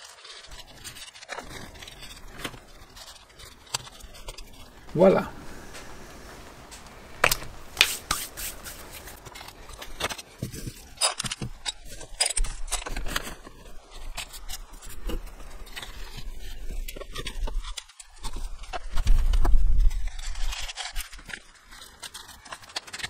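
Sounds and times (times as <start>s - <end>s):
scrapes clicks and crackles: 0.0s - 23.0s.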